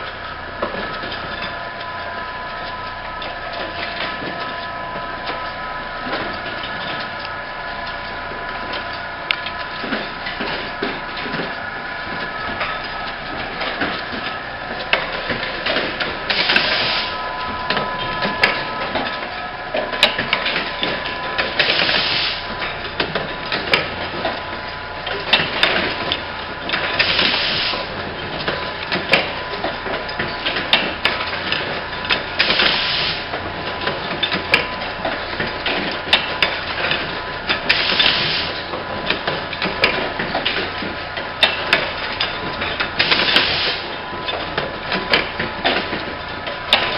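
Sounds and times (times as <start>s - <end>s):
steady machine whine: 0.0s - 46.9s
machine clattering clicks: 5.3s - 46.9s.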